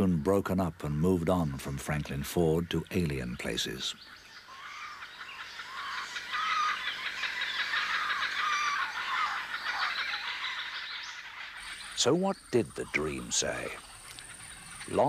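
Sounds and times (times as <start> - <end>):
birds calling and chattering: 0.0 - 15.0.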